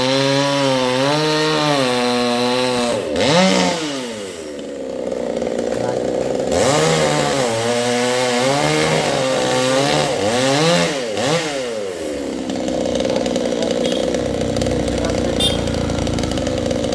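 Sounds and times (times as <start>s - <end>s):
chainsaw engine revving: 0.0s - 16.9s.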